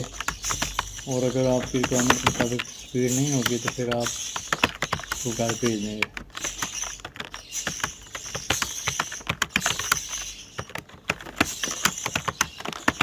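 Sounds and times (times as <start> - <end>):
typing on keyboard: 0.0 - 13.0.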